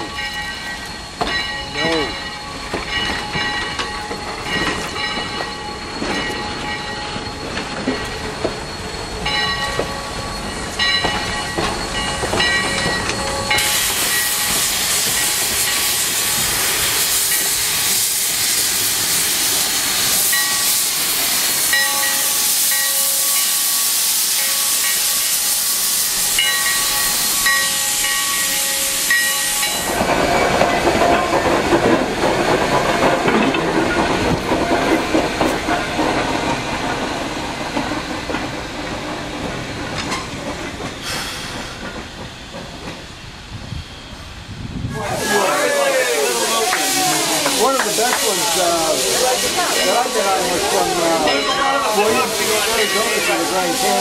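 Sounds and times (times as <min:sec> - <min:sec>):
loud steam hiss: 0:00.0 - 0:54.0.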